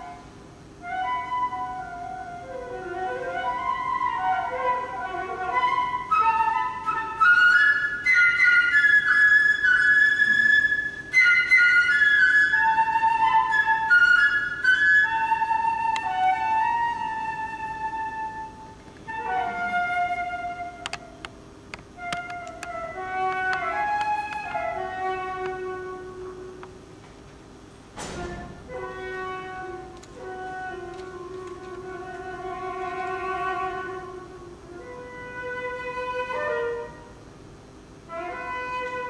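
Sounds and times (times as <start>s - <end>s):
solo flute melody: 0.0s - 21.3s, 21.9s - 26.8s, 28.0s - 37.3s, 38.0s - 39.0s.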